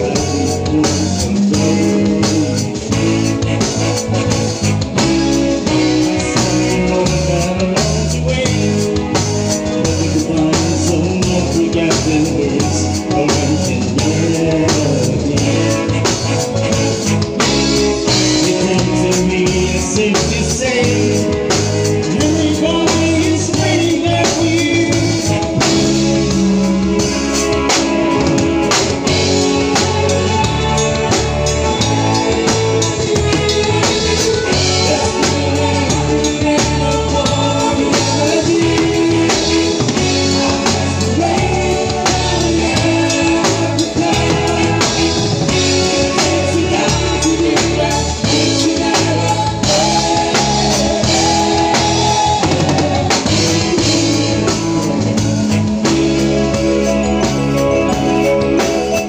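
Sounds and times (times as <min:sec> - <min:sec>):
drum kit: 0:00.0 - 0:59.0
live band playing loud music: 0:00.0 - 0:59.0
person singing: 0:00.0 - 0:59.0.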